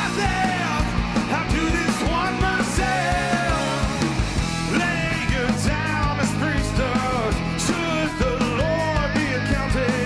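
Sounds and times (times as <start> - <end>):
bass guitar: 0.0 - 10.0
drum kit with cymbal hits: 0.0 - 10.0
electric guitars: 0.0 - 10.0
man singing lead: 0.0 - 10.0.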